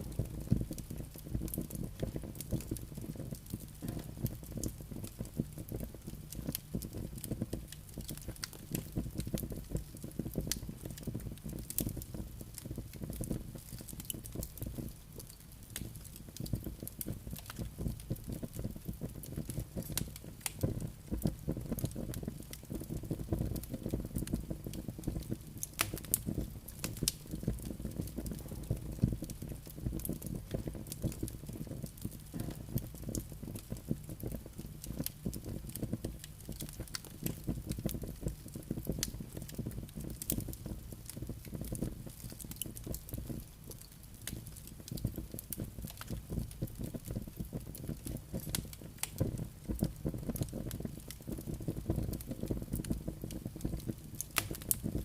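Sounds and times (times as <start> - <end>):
fire rumbling: 0.0 - 55.0.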